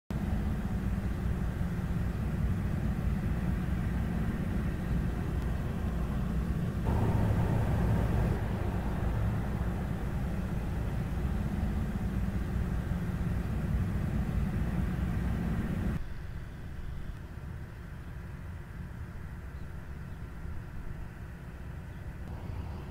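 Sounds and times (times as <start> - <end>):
diesel locomotives rumbling: 0.1 - 22.9.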